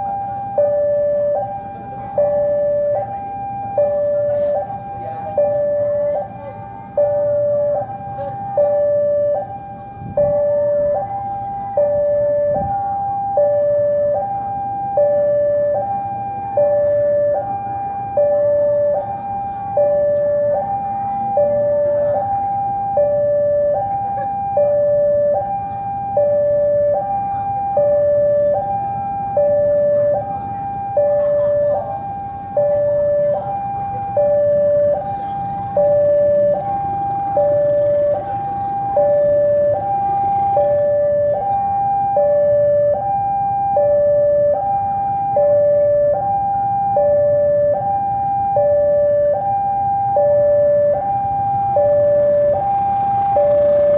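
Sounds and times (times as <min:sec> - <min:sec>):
locomotive engine rumble: 0:00.0 - 0:53.9
two-tone level crossing alarm: 0:00.0 - 0:53.9.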